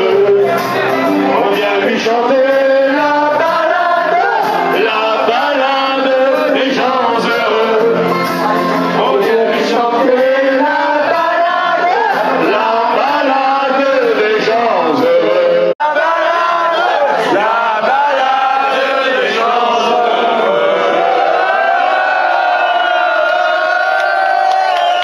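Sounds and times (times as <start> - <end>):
recorded backing track: 0.0 - 21.8
men singing into microphones: 0.0 - 22.5.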